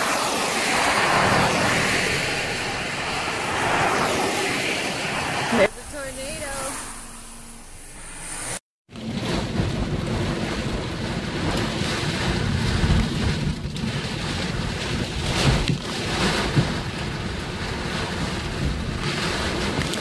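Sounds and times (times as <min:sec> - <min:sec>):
wind and rain buffeting car: 0:00.0 - 0:20.0.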